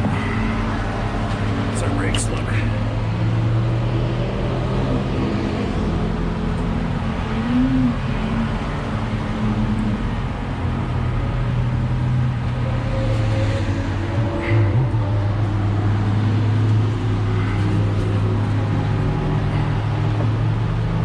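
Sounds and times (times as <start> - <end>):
car engines running: 0.0 - 21.0.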